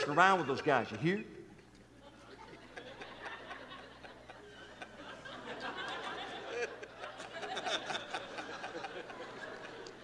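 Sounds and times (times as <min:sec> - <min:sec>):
audience laughing: 0:00.0 - 0:01.0, 0:02.3 - 0:10.0.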